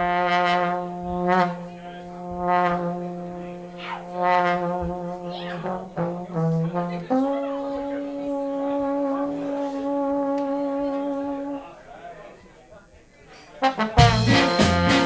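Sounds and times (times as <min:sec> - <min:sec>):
sustained brassy horn note: 0:00.0 - 0:11.8, 0:13.6 - 0:15.0.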